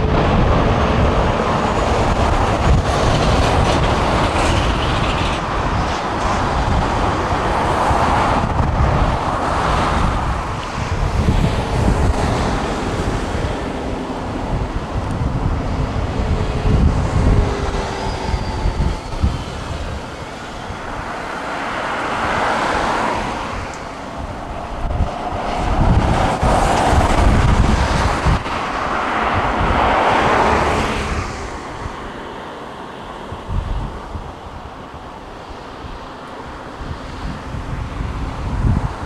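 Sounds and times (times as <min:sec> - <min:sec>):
jet engines rumbling: 0:00.0 - 0:39.0
wind buffeting microphone: 0:00.0 - 0:39.0.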